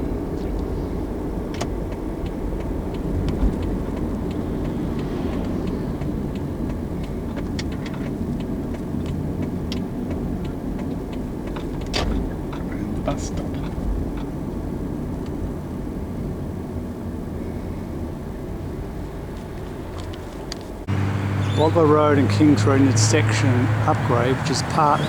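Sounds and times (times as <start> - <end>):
road vehicle rumble: 0.0 - 25.0.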